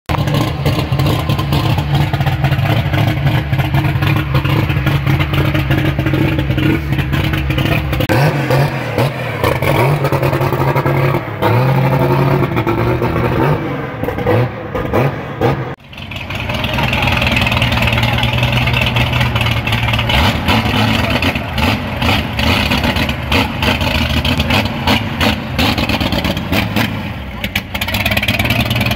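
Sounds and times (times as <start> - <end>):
car engine idling: 0.1 - 28.9
engine throttle blips: 0.1 - 28.9.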